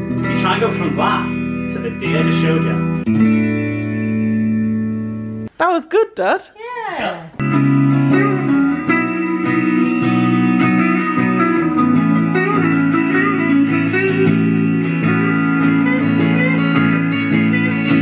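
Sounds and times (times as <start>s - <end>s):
electric guitar playing: 0.0s - 5.5s, 7.4s - 18.0s.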